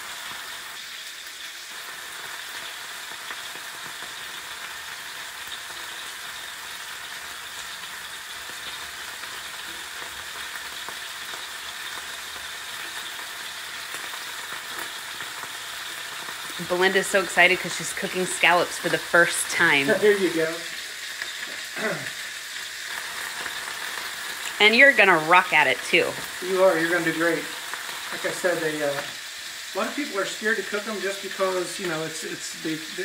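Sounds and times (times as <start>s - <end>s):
scallops sizzling in a frying pan: 0.0s - 33.0s.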